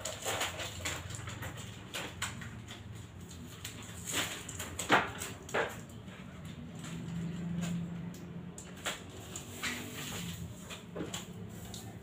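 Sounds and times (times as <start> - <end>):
large paper chart rustling: 0.0 - 12.0.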